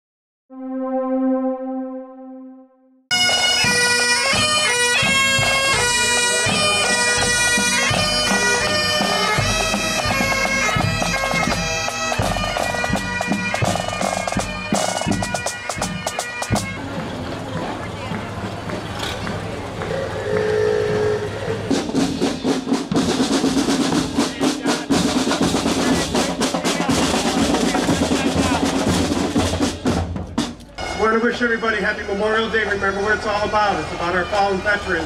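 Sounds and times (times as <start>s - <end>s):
bagpipes and drums playing: 3.1s - 35.0s.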